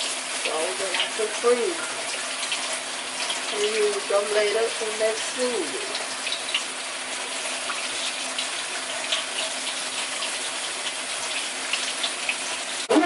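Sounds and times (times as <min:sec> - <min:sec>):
faucet running: 0:00.0 - 0:13.0
water splashing into metal sink: 0:00.0 - 0:13.0.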